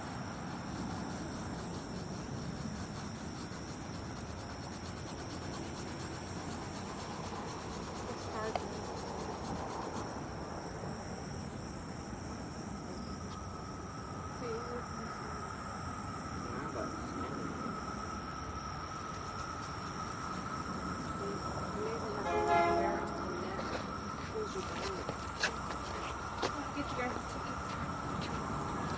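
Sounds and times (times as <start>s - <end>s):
insects buzzing: 0.0s - 28.9s
low background rumble: 0.0s - 28.9s.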